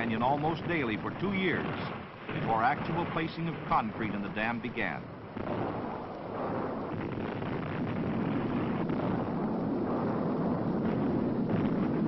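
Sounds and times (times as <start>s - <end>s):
rumble of dynamite blast: 0.0s - 12.0s.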